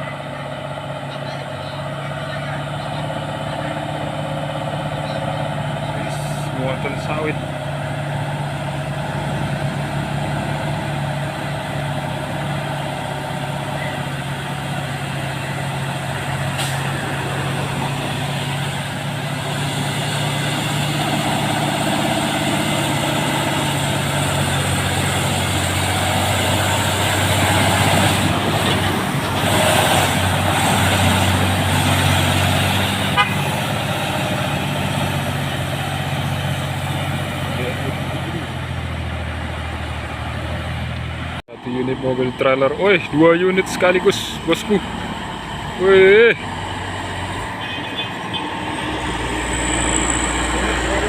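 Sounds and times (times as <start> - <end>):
truck diesel engine drone: 0.0 - 51.0.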